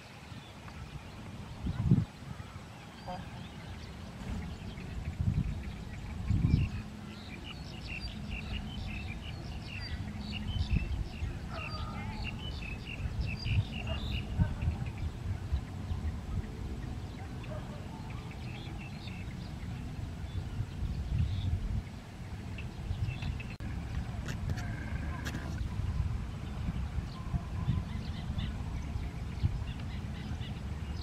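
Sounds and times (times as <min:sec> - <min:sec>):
small birds chirping: 0:00.0 - 0:31.0
steady low rumble: 0:00.4 - 0:31.0.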